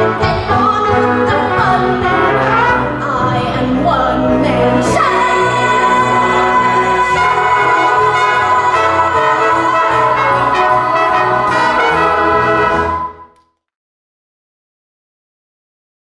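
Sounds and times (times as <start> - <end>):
orchestra with brass playing: 0.0 - 13.4.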